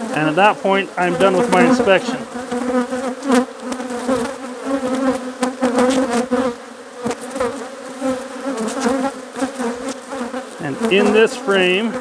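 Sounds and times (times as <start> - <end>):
bees whining past: 0.0 - 12.0
honeybees buzzing: 0.0 - 12.0.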